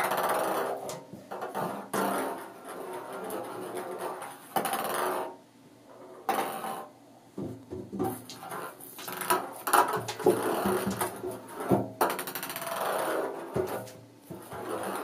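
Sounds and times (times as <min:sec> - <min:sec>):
ball clattering in bathtub: 0:00.0 - 0:05.4, 0:06.3 - 0:15.0.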